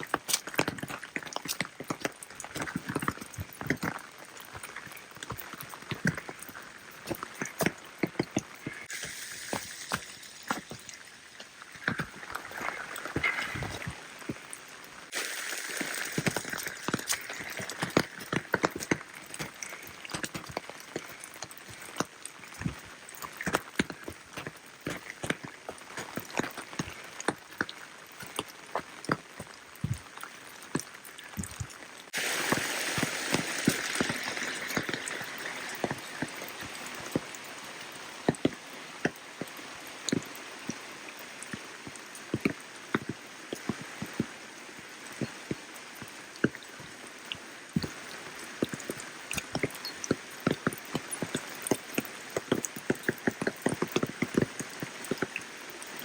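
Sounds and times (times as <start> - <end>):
rain falling: 0.0 - 56.0
rush of water: 0.0 - 56.0.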